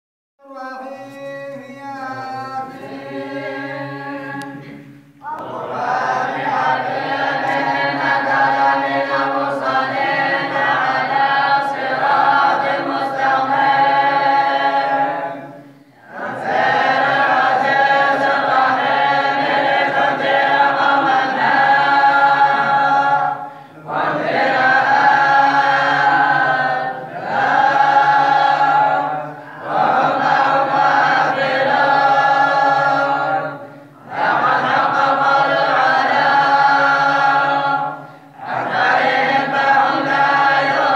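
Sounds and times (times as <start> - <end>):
voices chanting in unison: 0.4 - 40.9.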